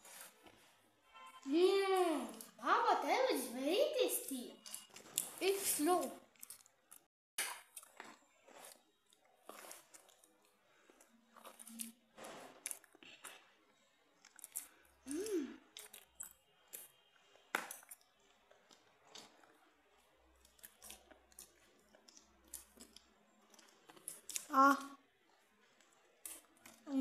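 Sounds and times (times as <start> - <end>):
faint chewing: 4.6 - 27.0.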